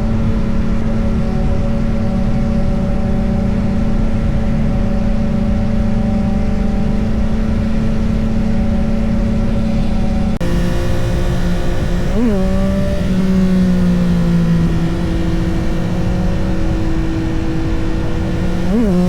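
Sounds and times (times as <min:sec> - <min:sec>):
motorcycle engine cruising: 0:00.0 - 0:19.0
wind and road rush: 0:00.0 - 0:19.0.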